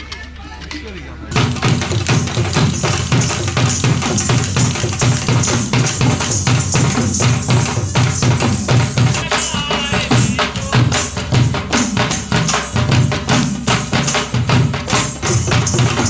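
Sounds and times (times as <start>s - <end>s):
drums beating: 0.0s - 16.0s
jangling percussion: 0.0s - 16.0s.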